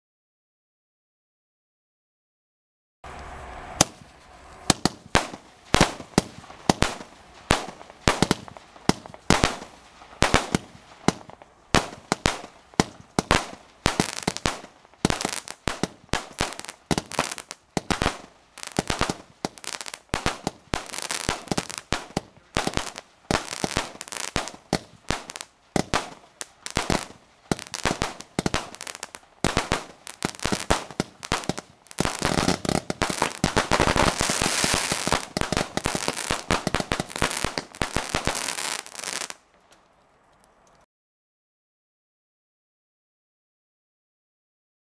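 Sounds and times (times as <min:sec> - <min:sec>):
firework bangs: 0:03.1 - 0:39.4.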